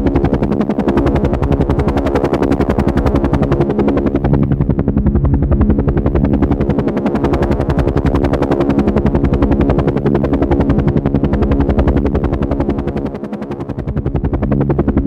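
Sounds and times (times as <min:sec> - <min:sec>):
helicopter engine hum: 0:00.0 - 0:15.0
helicopter rotor blades beating: 0:00.0 - 0:15.0.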